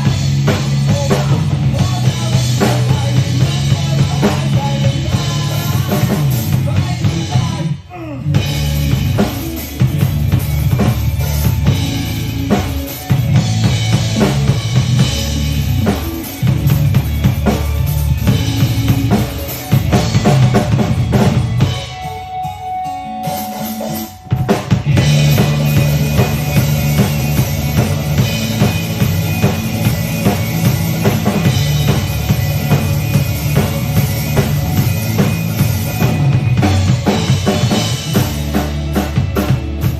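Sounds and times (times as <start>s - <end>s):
drum kit groove: 0.0s - 39.9s.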